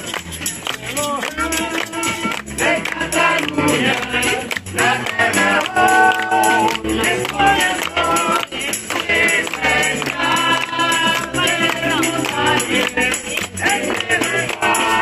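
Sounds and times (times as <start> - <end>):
hands clapping: 0.0 - 15.0
upright double bass: 0.0 - 15.0
man singing through megaphone: 1.0 - 15.0.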